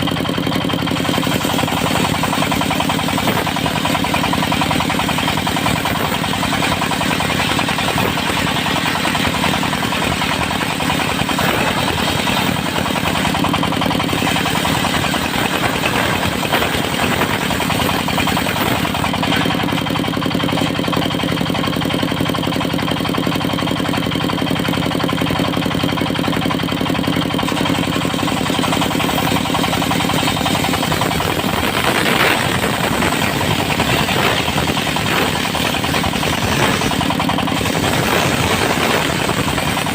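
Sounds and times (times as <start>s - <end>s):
sawmill engine running: 0.0s - 39.9s
harsh high saw noise: 0.8s - 21.1s, 27.3s - 39.9s.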